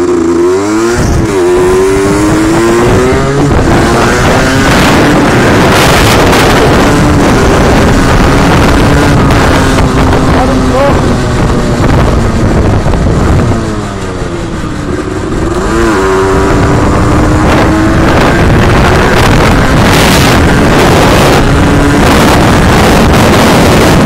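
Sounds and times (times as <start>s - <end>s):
small vehicle engine running: 0.0s - 24.0s
wind rushing over microphone: 0.0s - 24.0s.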